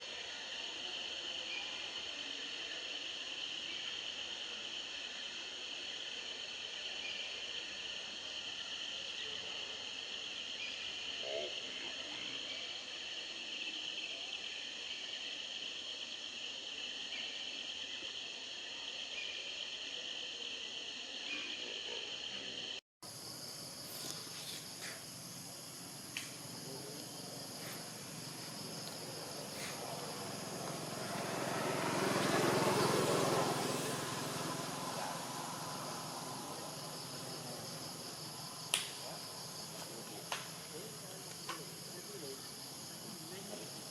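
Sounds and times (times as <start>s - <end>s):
shrill insect chorus: 0.0s - 43.9s.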